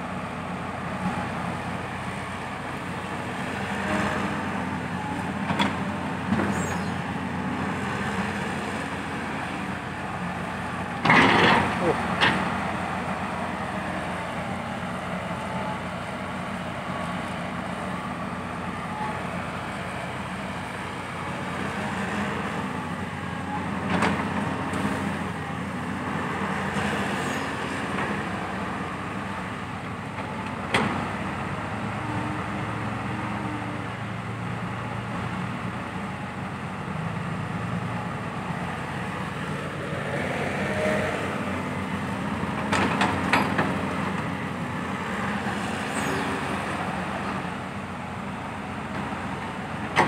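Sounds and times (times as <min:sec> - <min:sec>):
diesel machinery engines: 0:00.0 - 0:50.0.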